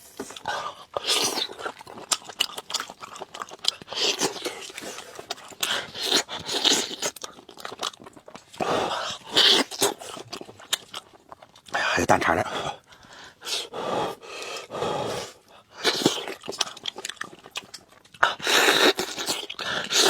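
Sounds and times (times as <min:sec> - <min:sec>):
chewing and crunching: 0:00.0 - 0:11.8, 0:15.3 - 0:20.0.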